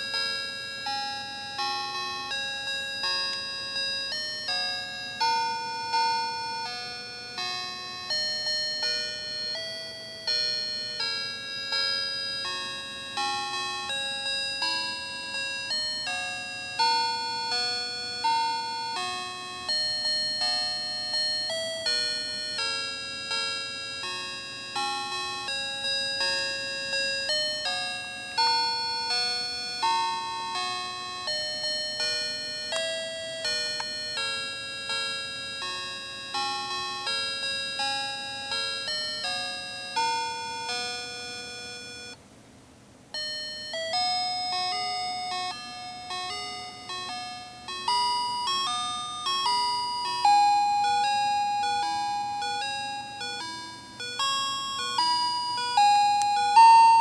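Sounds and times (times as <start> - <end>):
toy playing chiming melody: 0.0 - 42.2, 43.1 - 57.0.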